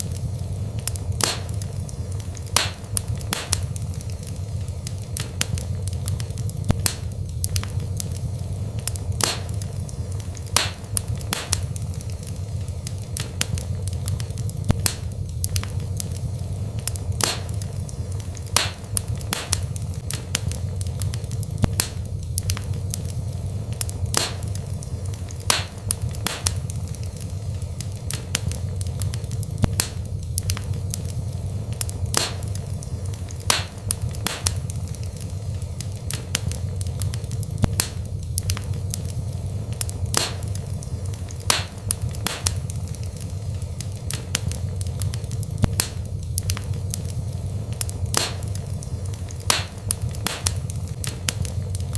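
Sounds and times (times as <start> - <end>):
fire crackles and pops: 0.0 - 51.9
wood fire burning: 0.0 - 51.9.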